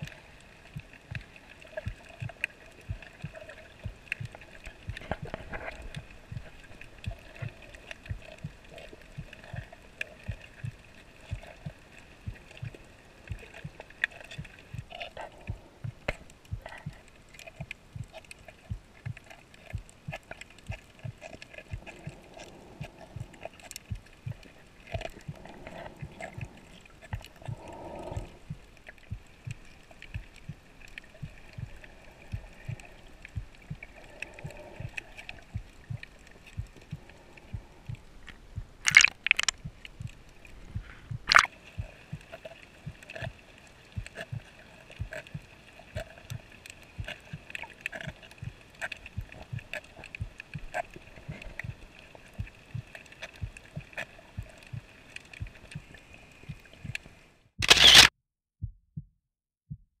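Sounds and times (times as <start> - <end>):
muffled low underwater thumps: 0.7 - 43.0, 48.1 - 57.2, 58.6 - 60.0.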